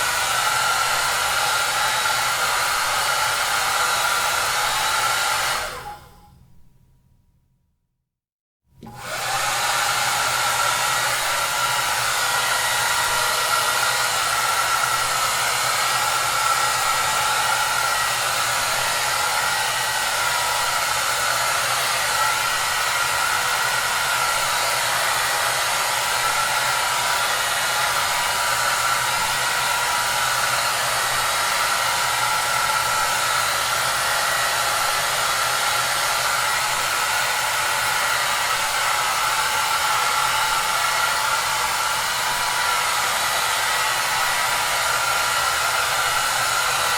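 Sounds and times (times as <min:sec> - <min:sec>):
hair dryer running: 0:00.0 - 0:06.3, 0:08.8 - 0:46.9.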